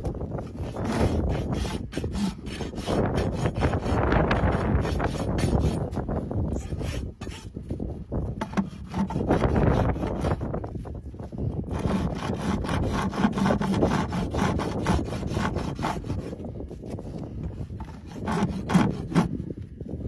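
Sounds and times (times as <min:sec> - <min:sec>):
rasp filing hoof: 0:00.3 - 0:07.7, 0:08.3 - 0:10.7, 0:11.3 - 0:19.5.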